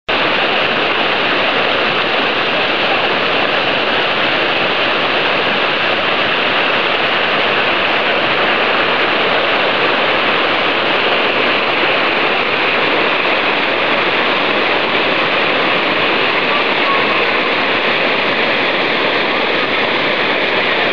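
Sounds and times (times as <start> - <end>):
river water rushing over rocks: 0.1 - 20.9.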